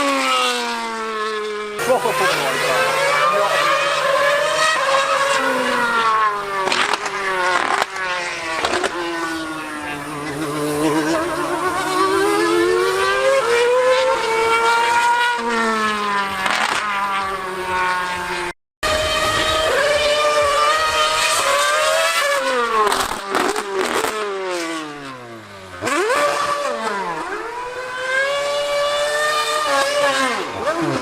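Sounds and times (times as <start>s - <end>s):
race car engine screaming: 0.0s - 31.0s.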